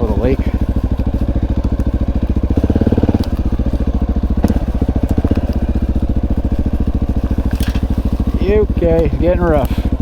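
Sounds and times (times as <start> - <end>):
motorcycle engine thumping: 0.0 - 10.0.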